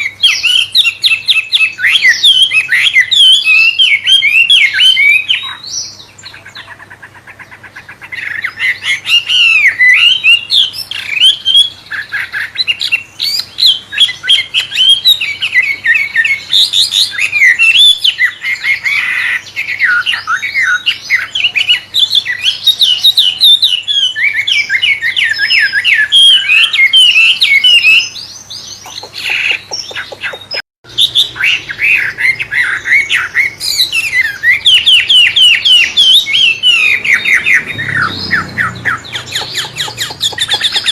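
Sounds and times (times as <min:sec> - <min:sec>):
songbird singing whistled phrases: 0:00.0 - 0:40.9.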